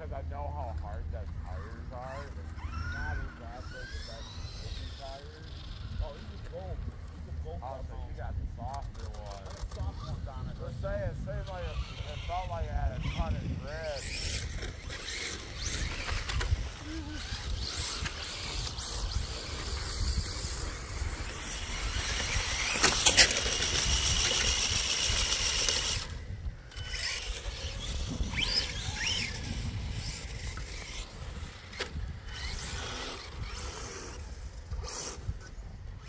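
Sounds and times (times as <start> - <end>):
electric rc car motor whine: 0.0 - 36.0.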